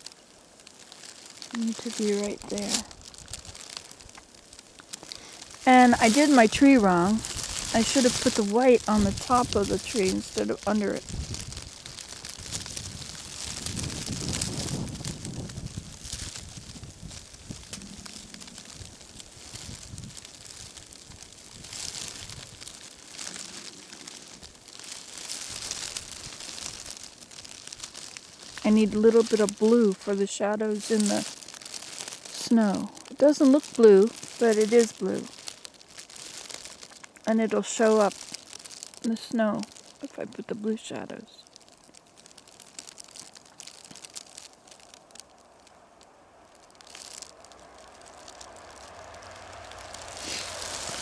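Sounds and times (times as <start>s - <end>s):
foil blanket crinkling: 0.0s - 51.0s.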